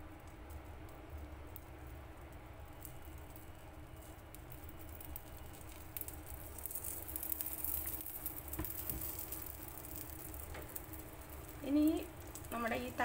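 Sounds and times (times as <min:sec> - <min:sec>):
batter sizzling in pan: 0:00.0 - 0:13.0.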